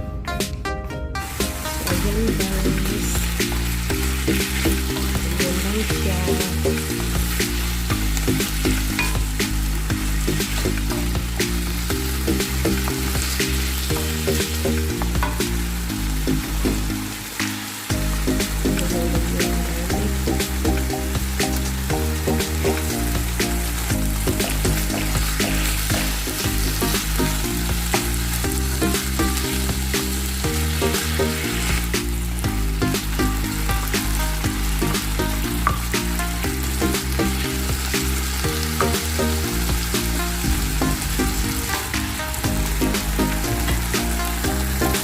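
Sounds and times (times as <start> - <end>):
background music: 0.0 - 45.0
chicken sizzling in oil: 1.2 - 45.0.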